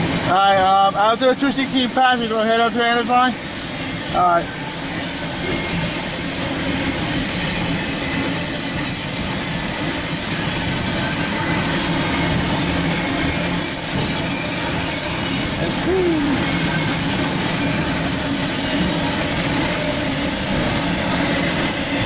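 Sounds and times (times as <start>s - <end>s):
freight train wheels on rail: 0.0s - 22.0s.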